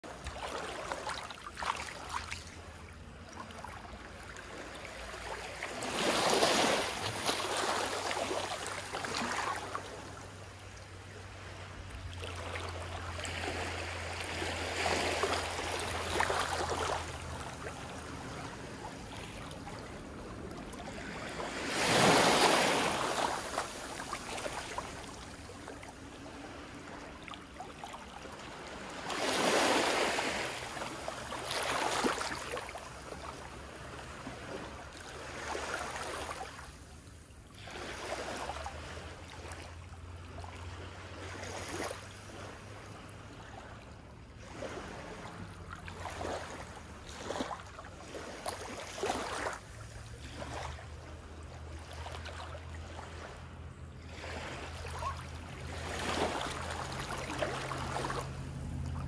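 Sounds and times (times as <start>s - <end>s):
gentle waves washing on sand: 0.0s - 59.0s.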